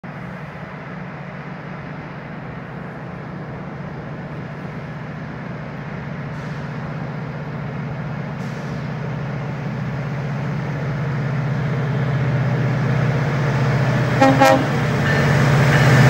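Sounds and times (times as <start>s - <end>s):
diesel train engine drone: 0.0s - 16.0s.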